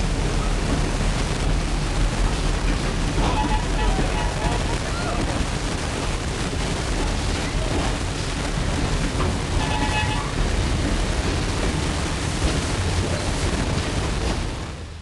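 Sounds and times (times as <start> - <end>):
locomotive rumbling past: 0.0 - 15.0.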